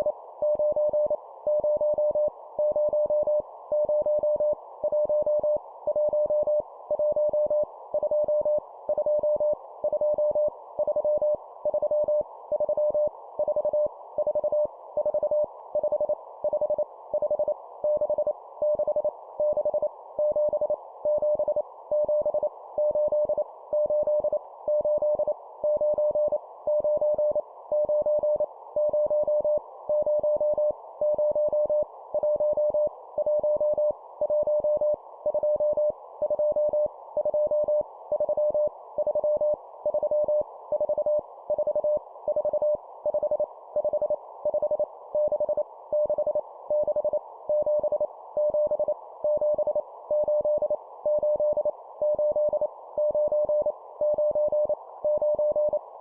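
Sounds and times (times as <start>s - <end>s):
morse code beeps: 0.4s - 55.8s.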